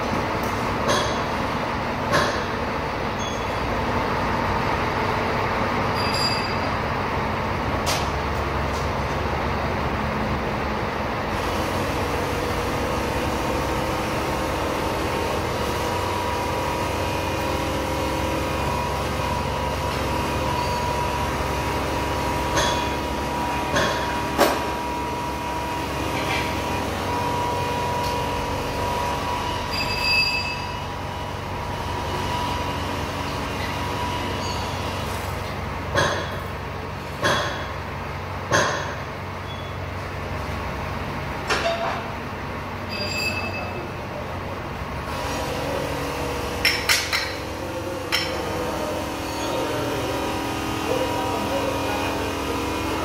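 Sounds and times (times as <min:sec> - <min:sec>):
workshop machine hum: 0:00.0 - 0:53.0.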